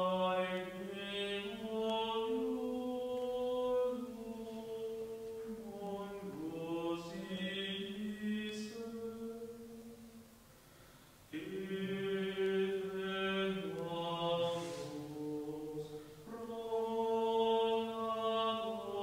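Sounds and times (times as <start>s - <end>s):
unaccompanied sung chant: 0.0s - 10.3s, 11.3s - 19.0s.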